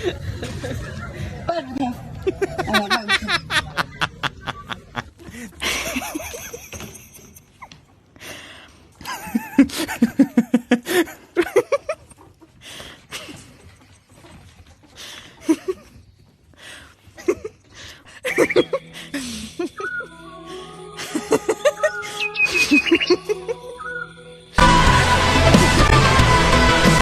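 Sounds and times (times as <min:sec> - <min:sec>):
people laughing: 0:00.0 - 0:07.8, 0:09.0 - 0:16.0, 0:17.1 - 0:23.9.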